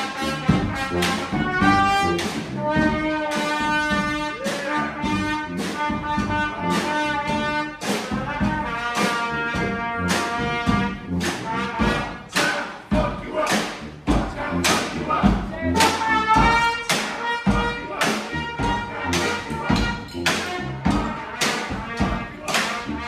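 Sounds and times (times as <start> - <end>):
brass horns playing: 0.0 - 23.0
drum hits: 0.0 - 23.0.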